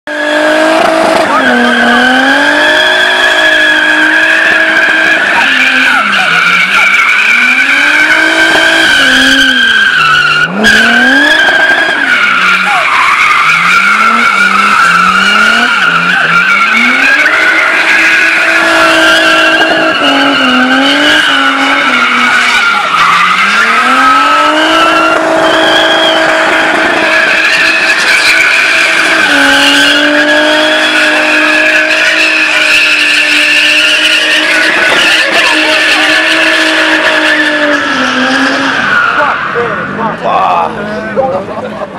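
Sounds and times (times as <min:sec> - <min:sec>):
car engine revving: 0:00.0 - 0:41.9
tyres squealing: 0:00.3 - 0:40.0.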